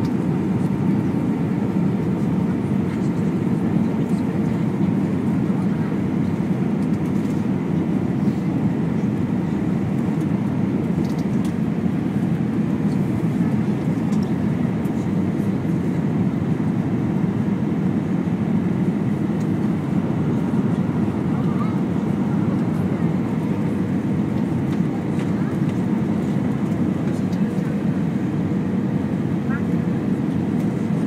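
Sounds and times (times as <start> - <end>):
aircraft cabin engine rumble: 0.0 - 31.0.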